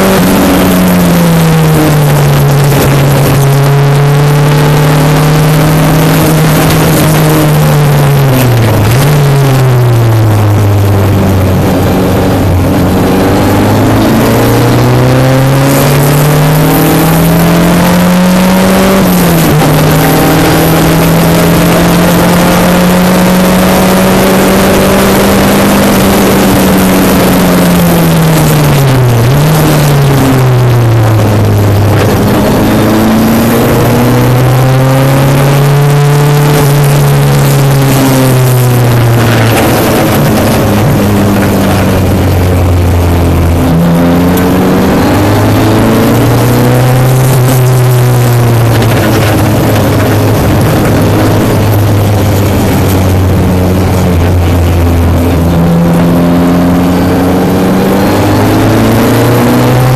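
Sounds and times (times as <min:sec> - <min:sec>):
race car engine at high revs: 0:00.0 - 0:59.9
rush of wind noise: 0:00.0 - 0:59.9.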